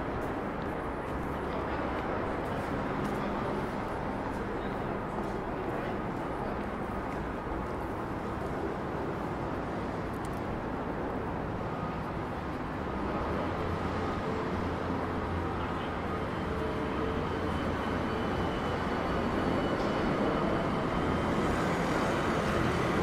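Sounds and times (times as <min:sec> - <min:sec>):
steady traffic noise: 0:00.0 - 0:23.0.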